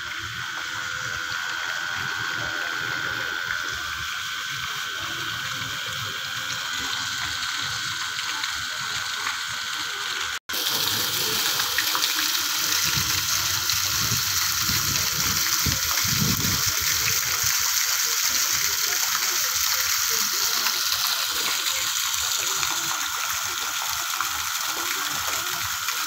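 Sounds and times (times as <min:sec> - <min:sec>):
fountain water splashing into pool: 0:00.0 - 0:26.0.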